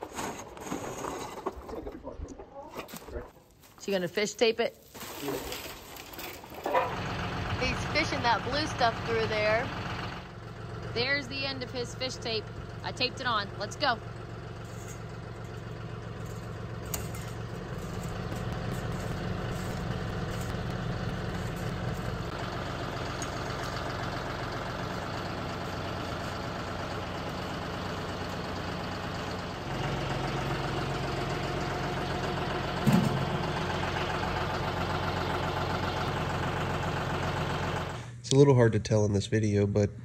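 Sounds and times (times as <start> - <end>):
tractor engine idling: 5.9 - 38.2.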